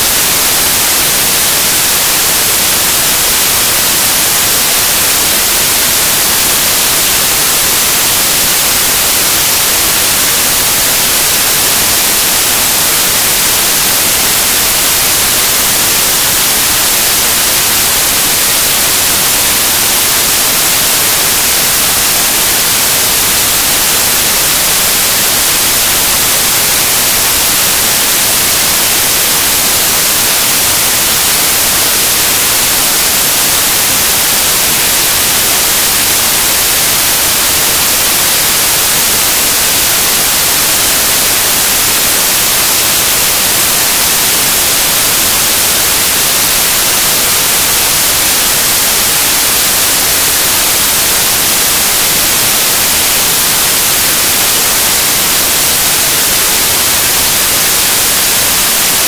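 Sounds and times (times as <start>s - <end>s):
static hiss: 0.0s - 59.0s.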